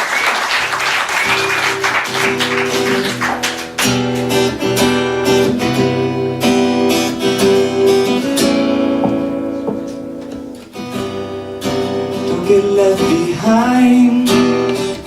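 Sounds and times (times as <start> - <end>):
acoustic guitar strumming chords: 0.7 - 15.0.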